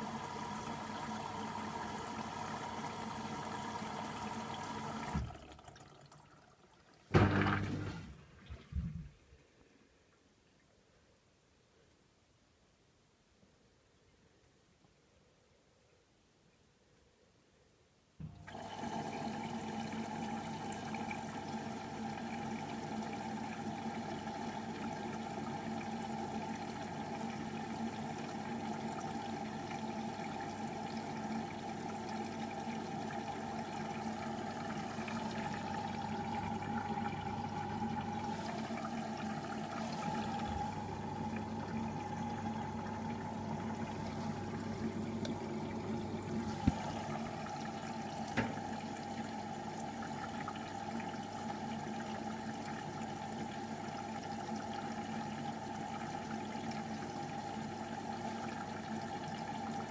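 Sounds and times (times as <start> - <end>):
water rushing into machine: 0.0 - 9.1, 18.3 - 59.9.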